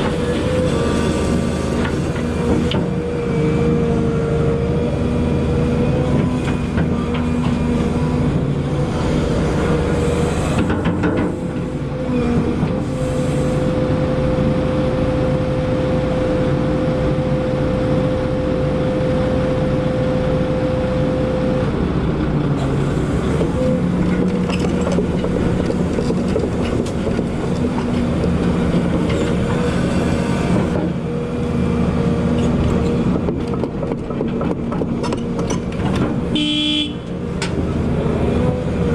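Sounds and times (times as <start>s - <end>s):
excavator engine and hydraulics: 0.0s - 38.9s.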